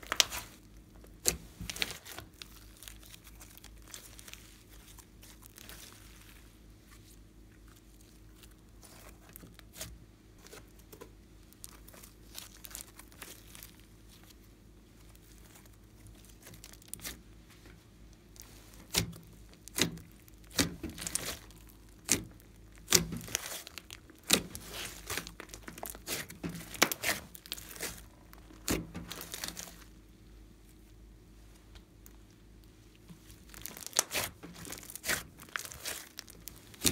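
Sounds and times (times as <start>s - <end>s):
hands squishing slime: 0.0s - 17.2s, 18.2s - 29.9s, 33.0s - 36.9s.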